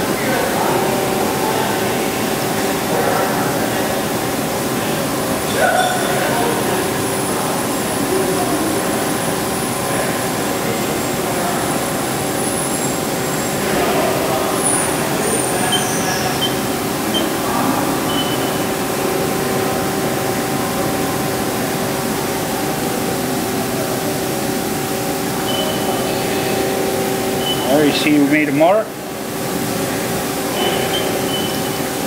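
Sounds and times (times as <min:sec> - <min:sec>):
lathe machine hum: 0:00.0 - 0:32.0.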